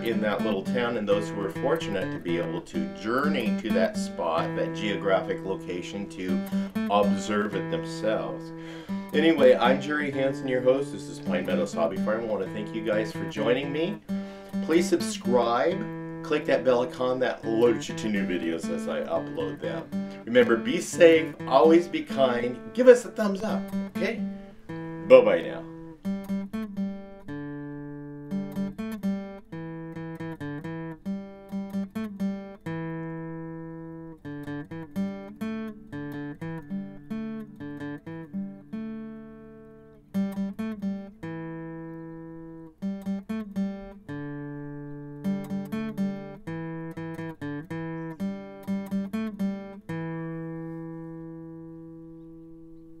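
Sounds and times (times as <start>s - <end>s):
acoustic guitar fingerpicking: 0.0s - 53.0s.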